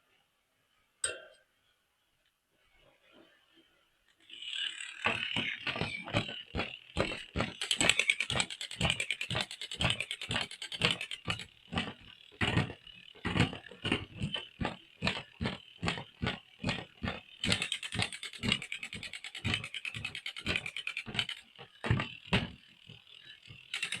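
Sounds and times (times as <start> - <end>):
plastic toy clicking: 4.4 - 24.0.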